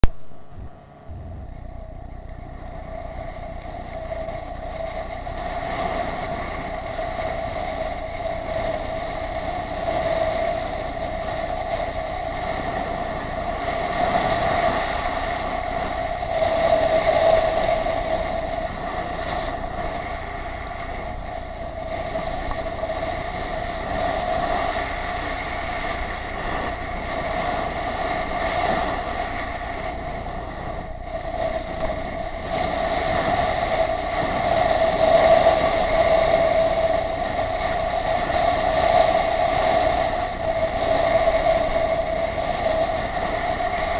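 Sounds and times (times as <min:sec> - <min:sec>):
air rushing and snow sliding: 0:00.0 - 0:43.9
continuous drone: 0:00.0 - 0:43.9.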